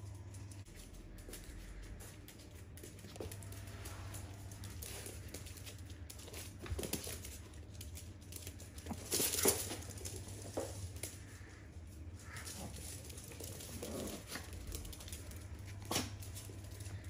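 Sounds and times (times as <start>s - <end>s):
dog claws pattering on floor: 0.3s - 17.0s.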